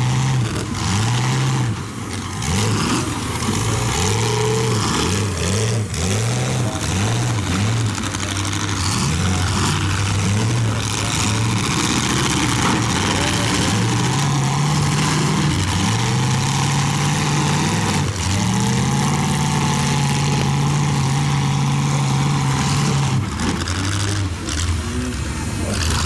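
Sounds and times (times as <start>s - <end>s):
car engines revving hard: 0.0s - 26.0s.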